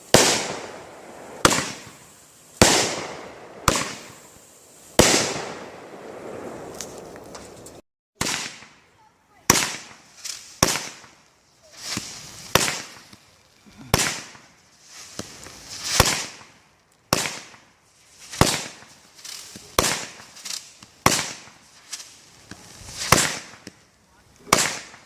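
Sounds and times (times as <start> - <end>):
fireworks banging: 0.0 - 25.0
fireworks hissing: 0.0 - 25.0.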